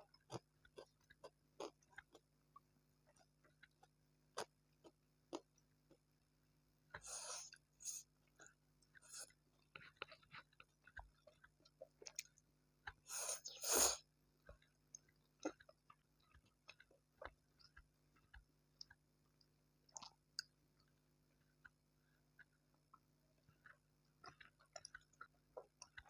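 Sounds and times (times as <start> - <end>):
person chewing noodles: 0.0 - 6.1, 6.9 - 19.1, 19.9 - 26.0.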